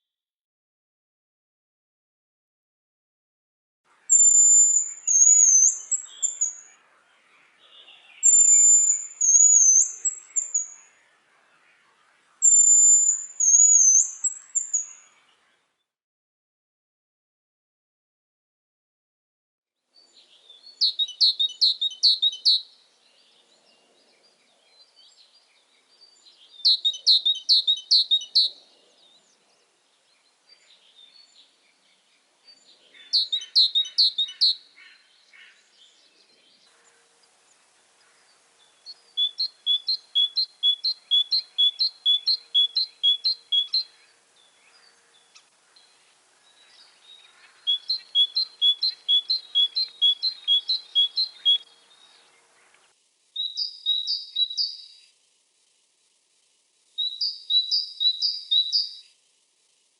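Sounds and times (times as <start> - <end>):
songbird singing: 3.9 - 15.9, 20.0 - 55.4, 56.8 - 59.9.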